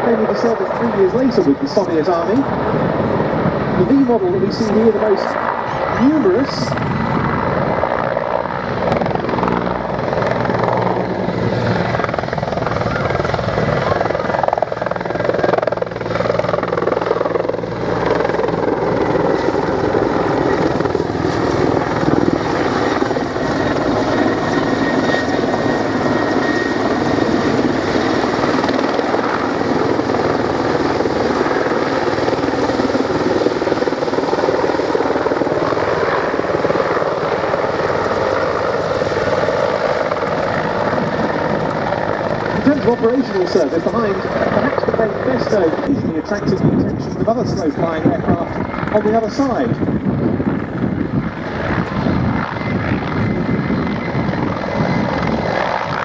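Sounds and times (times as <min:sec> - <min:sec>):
helicopter engines and rotor: 0:00.0 - 0:56.0.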